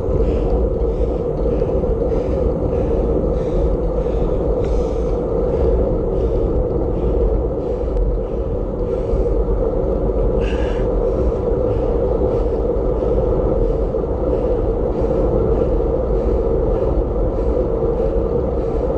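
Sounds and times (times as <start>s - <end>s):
bicycle road rumble: 0.0s - 18.9s
wind noise: 0.0s - 18.9s.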